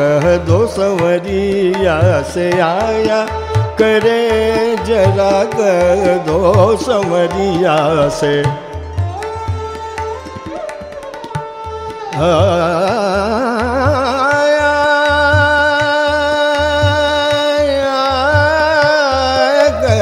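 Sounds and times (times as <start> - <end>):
sarangi playing: 0.0 - 20.0
tabla rhythm: 0.0 - 20.0.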